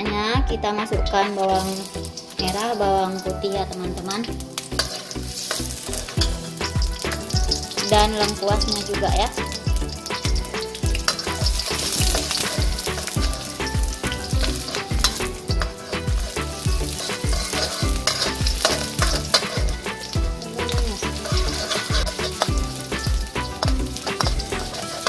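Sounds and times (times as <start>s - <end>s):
background music with beat: 0.0s - 25.0s
vegetables sizzling in hot oil: 0.9s - 25.0s
spatula stirring in a wok: 1.4s - 25.0s.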